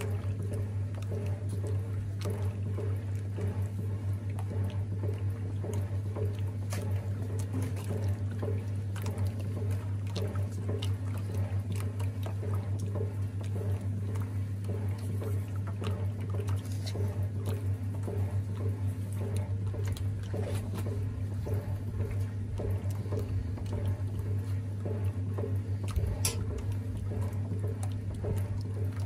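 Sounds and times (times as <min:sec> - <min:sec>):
washing machine hum: 0:00.0 - 0:29.0
water sloshing and splashing: 0:00.0 - 0:29.0.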